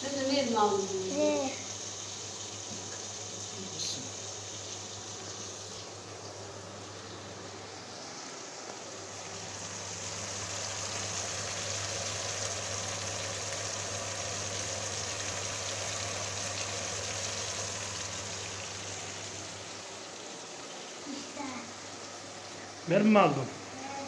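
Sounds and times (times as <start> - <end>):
fish sizzling in oil: 0.0 - 23.9.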